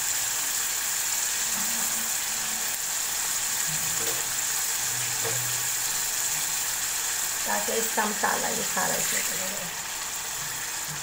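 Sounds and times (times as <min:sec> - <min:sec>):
food sizzling and bubbling in a wok: 0:00.0 - 0:11.0.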